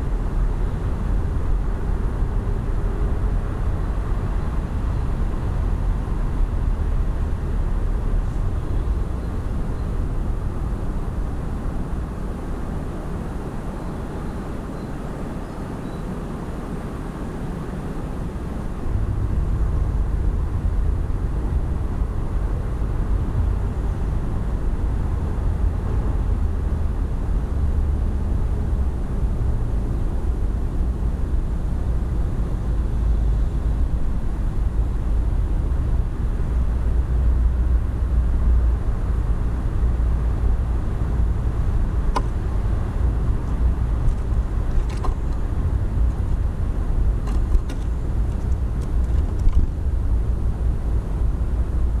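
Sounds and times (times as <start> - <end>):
steady low rumble: 0.0 - 15.2, 16.4 - 52.0.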